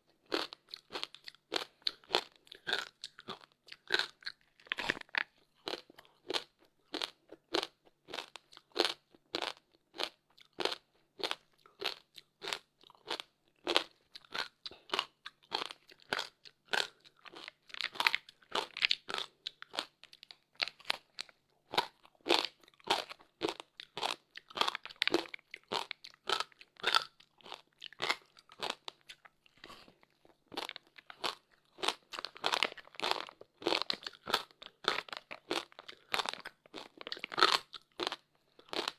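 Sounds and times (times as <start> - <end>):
crunching and chewing ice: 0.0 - 38.9.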